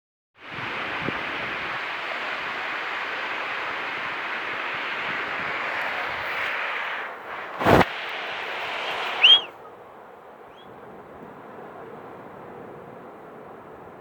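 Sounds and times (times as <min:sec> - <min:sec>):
sea surf washing onto shore: 0:00.4 - 0:14.0.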